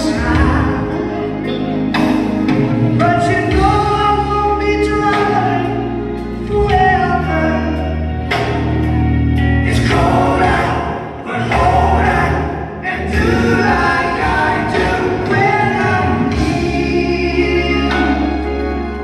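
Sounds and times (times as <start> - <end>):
choir singing: 0.0 - 19.0
low bass notes: 0.0 - 19.0.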